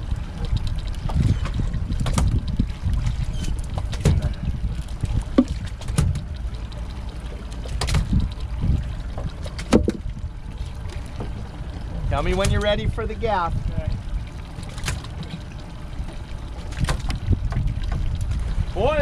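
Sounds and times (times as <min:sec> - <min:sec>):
low rumble: 0:00.0 - 0:19.0
water splashing against boat hull: 0:00.0 - 0:19.0.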